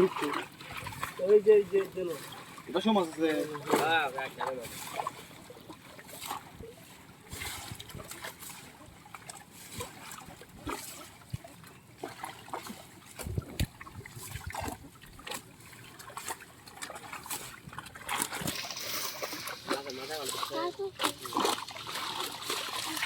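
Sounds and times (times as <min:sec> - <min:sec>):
pond water splashing: 0:00.0 - 0:23.0.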